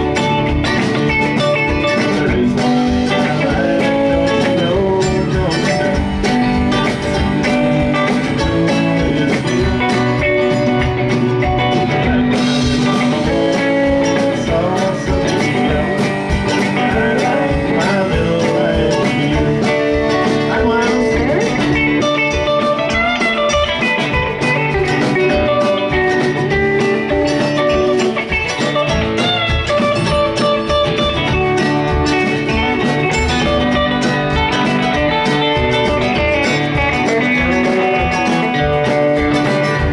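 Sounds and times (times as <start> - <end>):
live band playing bluesy song: 0.0 - 39.9.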